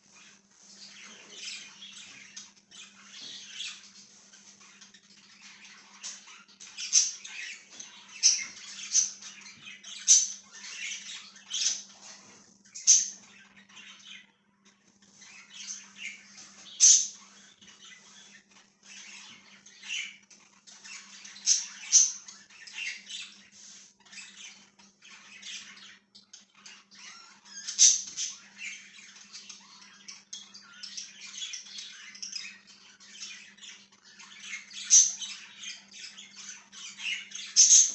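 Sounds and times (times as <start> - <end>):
budgerigars chirping: 0.1 - 37.9.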